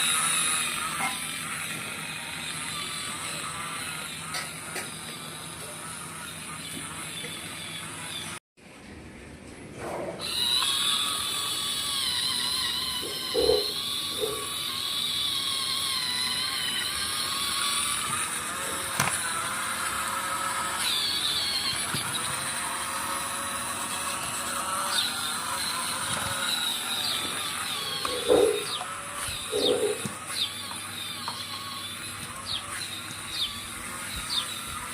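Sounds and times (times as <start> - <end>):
electric gear motor whine: 0.0 - 8.4, 10.2 - 34.9.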